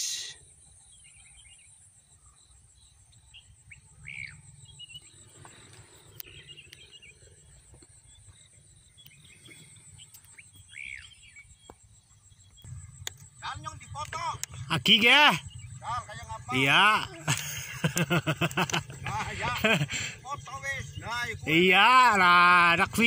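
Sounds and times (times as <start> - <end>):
birds chirping: 0.0 - 23.0
insects buzzing: 0.0 - 23.0.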